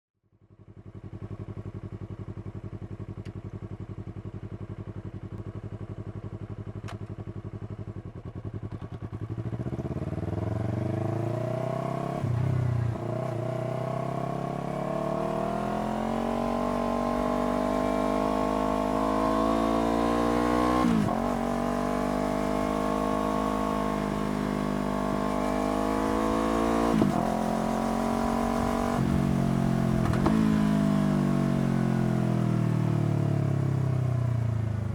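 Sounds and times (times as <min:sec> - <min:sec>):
motorcycle engine revving: 0:04.5 - 0:34.9.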